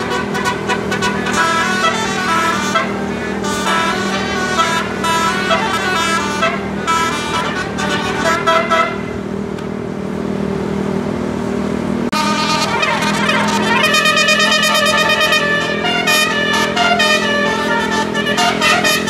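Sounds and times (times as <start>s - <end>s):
multi-tone bus horn melody: 0.0s - 9.4s, 12.1s - 19.0s
bus engine drone: 0.0s - 19.0s.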